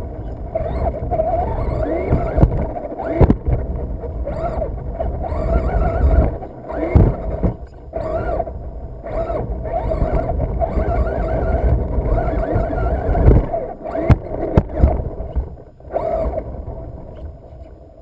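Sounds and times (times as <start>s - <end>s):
tyres rumbling on dirt: 0.0s - 17.1s
rc truck motor whine: 0.0s - 18.0s.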